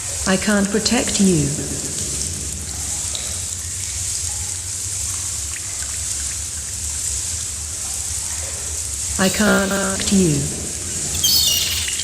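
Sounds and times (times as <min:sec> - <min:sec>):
rain-like hiss: 0:00.0 - 0:12.0.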